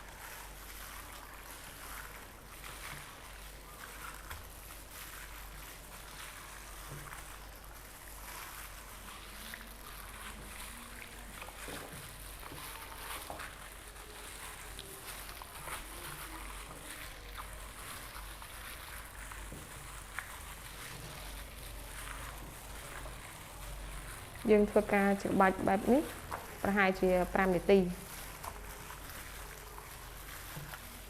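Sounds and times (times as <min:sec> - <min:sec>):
hands kneading wet meat: 0:00.0 - 0:31.0.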